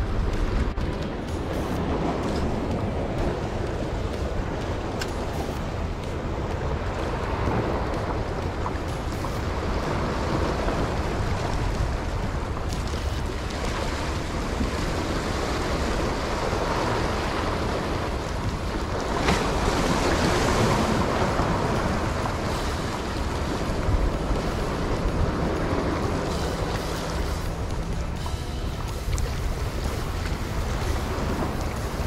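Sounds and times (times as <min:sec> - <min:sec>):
waves washing over rocks: 0:00.0 - 0:32.0
wind on microphone: 0:00.0 - 0:32.0.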